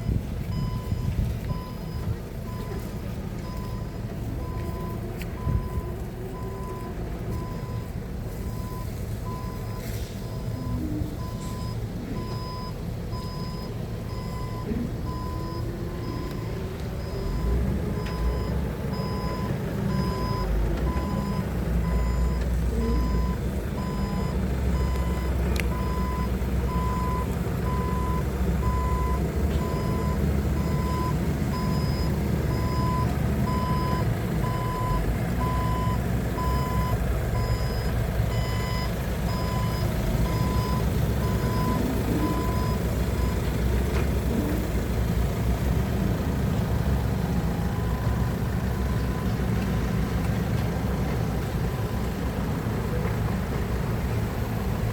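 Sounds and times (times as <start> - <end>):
forklift warning alarm beeps: 0.0 - 44.8, 46.9 - 52.8
forklift engine running: 0.0 - 54.9.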